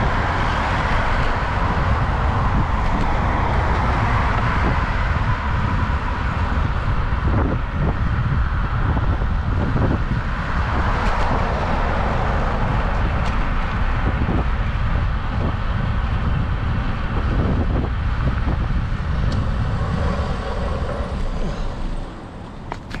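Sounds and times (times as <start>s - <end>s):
road traffic passing: 0.0s - 23.0s
wind buffeting microphone: 0.0s - 23.0s.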